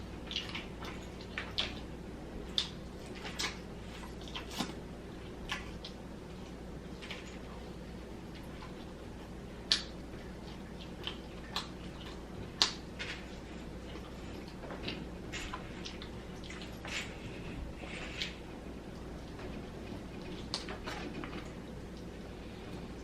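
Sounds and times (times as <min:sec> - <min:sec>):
wet chewing and lip-smacking: 0:00.0 - 0:22.2
faint steady hum: 0:00.0 - 0:23.0.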